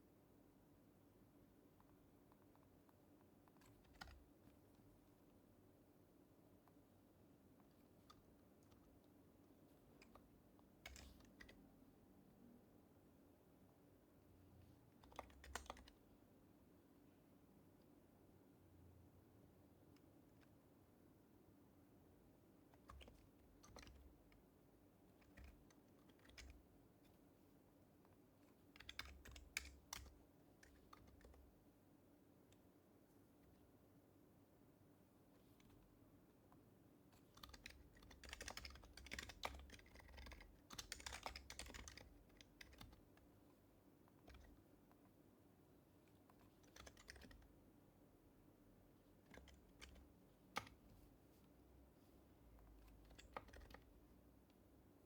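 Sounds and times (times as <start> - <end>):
faint keyboard typing: 0.7 - 12.6, 13.6 - 55.0.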